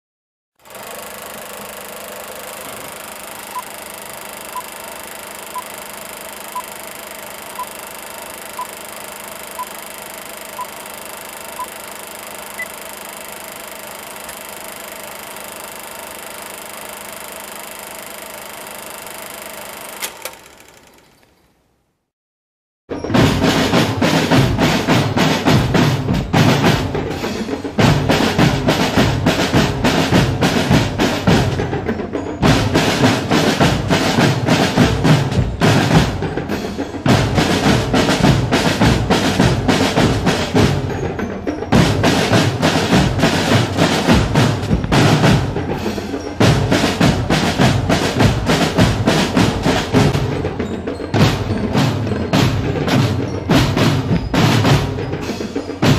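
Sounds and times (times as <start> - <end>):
snare and bass drums playing: 1.6 - 15.0, 23.0 - 55.9.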